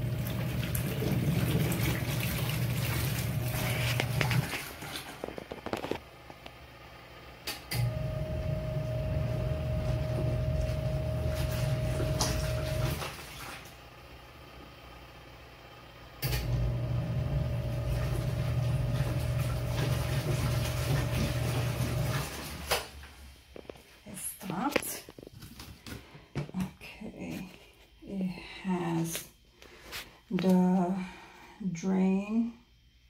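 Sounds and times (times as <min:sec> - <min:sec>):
washing machine motor humming: 0:00.0 - 0:32.4.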